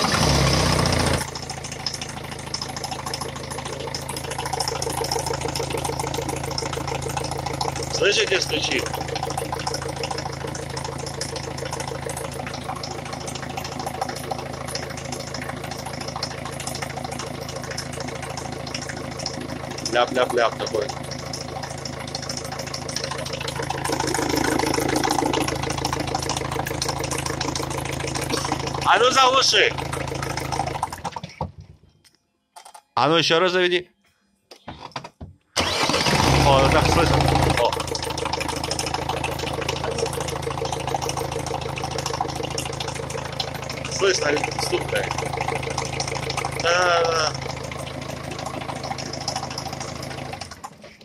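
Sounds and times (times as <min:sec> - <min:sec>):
diesel engine idling: 0:00.0 - 0:31.0, 0:35.6 - 0:50.6
engine knocking: 0:00.0 - 0:31.4, 0:35.6 - 0:50.9.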